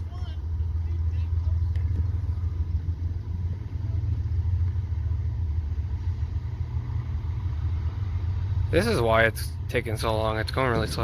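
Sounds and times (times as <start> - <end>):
freight train rumbling: 0.0 - 11.0.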